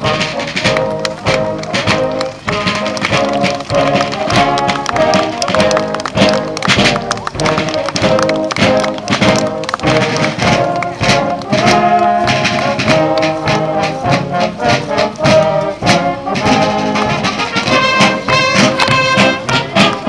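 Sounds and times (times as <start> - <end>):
steady drum beat: 0.0 - 20.0
trumpets and trombones: 0.0 - 20.0.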